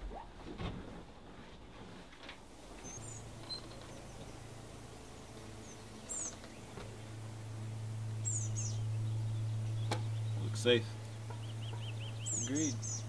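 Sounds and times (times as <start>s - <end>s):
steady low hum: 0.0s - 13.0s
birds chirping: 2.5s - 13.0s.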